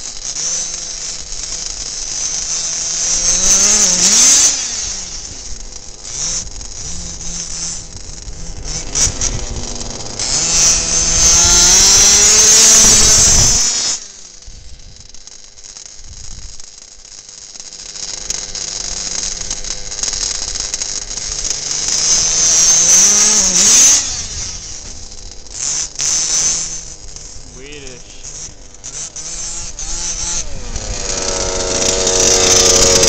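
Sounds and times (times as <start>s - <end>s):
small two-stroke engine revving: 0.0s - 33.0s.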